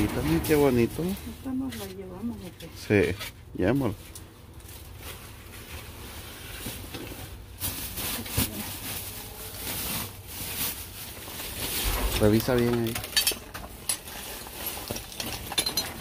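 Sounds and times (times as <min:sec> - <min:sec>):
rummaging through rubbish rustling: 0:00.0 - 0:16.0.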